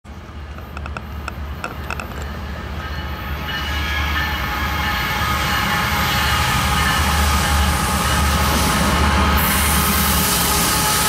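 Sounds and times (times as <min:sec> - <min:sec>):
diesel locomotive engine rumble: 0:00.1 - 0:11.0.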